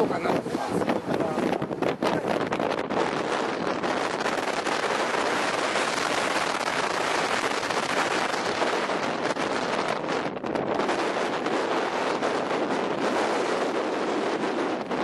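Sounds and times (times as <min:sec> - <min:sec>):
water rushing past boat: 0:00.0 - 0:15.0
wind buffeting microphone: 0:00.0 - 0:15.0.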